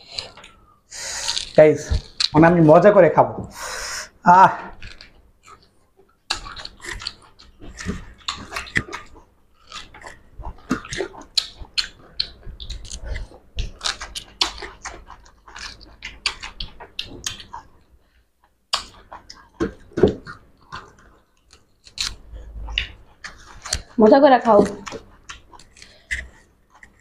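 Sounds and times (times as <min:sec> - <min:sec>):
wet chewing: 0:00.0 - 0:02.7, 0:04.6 - 0:27.0
lip smacking: 0:04.0 - 0:17.8, 0:18.7 - 0:27.0.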